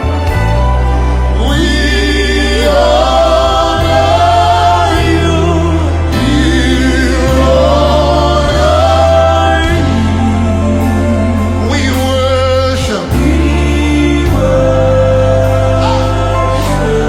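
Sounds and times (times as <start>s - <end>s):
sustained low bass notes: 0.0s - 17.0s
voices singing with vibrato: 1.3s - 17.0s.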